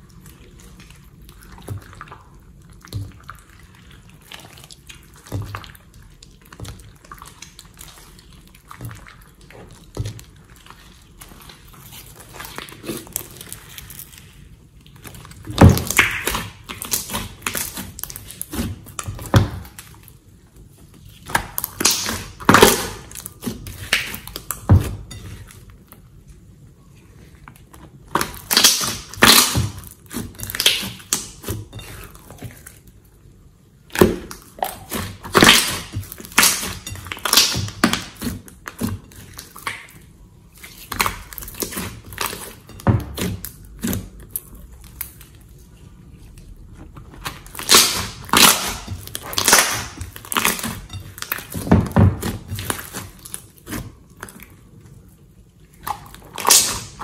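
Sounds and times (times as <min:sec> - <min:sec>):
slime squelching and popping: 0:00.0 - 0:26.1, 0:27.4 - 0:33.0, 0:33.8 - 0:45.5, 0:46.4 - 0:54.9, 0:55.6 - 0:57.0.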